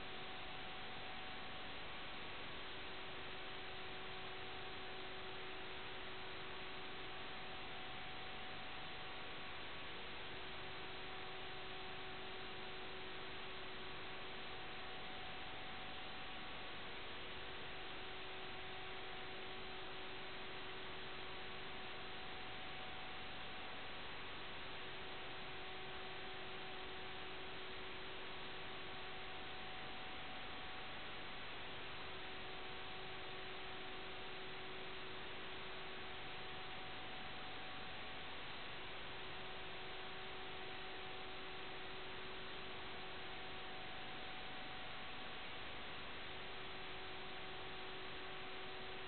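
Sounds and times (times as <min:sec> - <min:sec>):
faint hum: 0:00.0 - 0:49.0.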